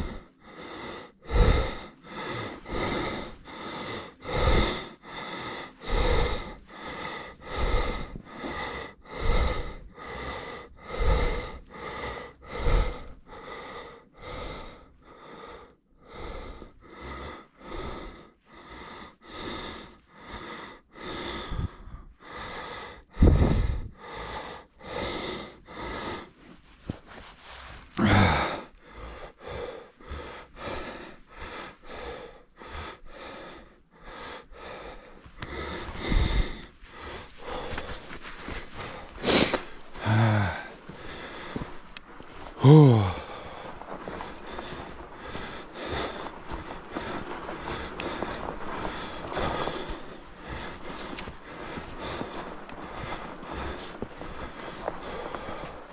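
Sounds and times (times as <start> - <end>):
cyclist breathing hard: 0.0 - 55.9.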